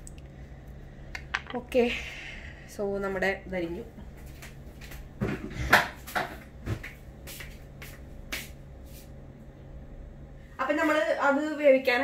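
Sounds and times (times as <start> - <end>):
low appliance hum: 0.0 - 12.0.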